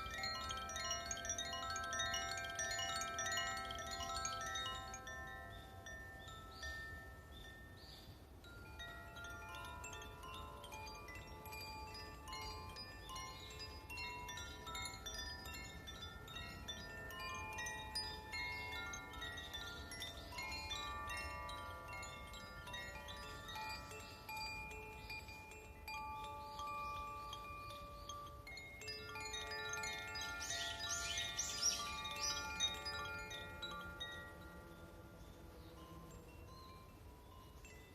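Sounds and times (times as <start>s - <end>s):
metal chimes ringing: 0.0s - 37.9s.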